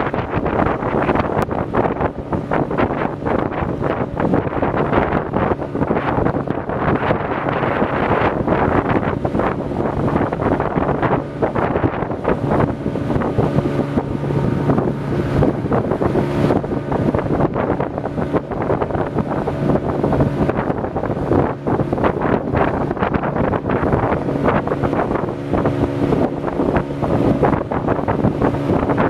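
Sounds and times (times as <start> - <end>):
low engine hum: 0.0 - 29.0
wind buffeting microphone: 0.0 - 29.0.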